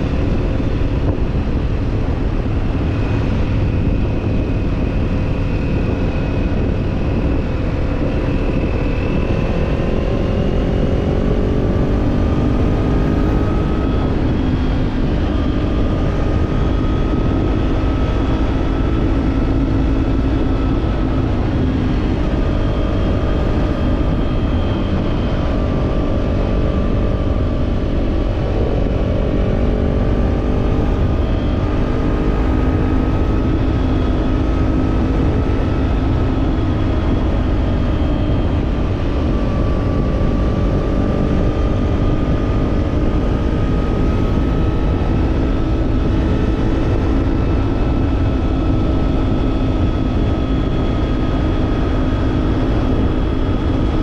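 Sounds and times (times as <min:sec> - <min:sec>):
motorcycle engine cruising: 0:00.0 - 0:54.0
wind rumble: 0:00.0 - 0:54.0.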